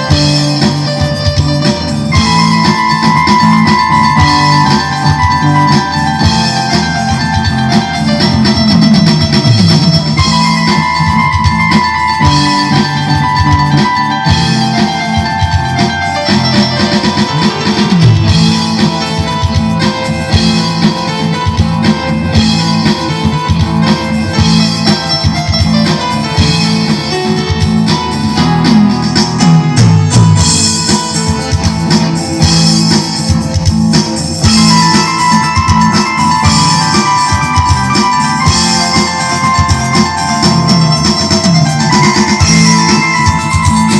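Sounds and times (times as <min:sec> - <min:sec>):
band playing instrumental music: 0:00.0 - 0:43.9.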